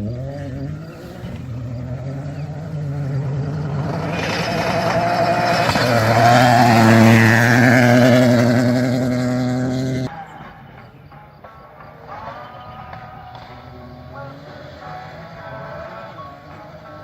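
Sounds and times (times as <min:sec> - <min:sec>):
rally car engine at high revs: 0:00.0 - 0:10.1, 0:12.5 - 0:17.0.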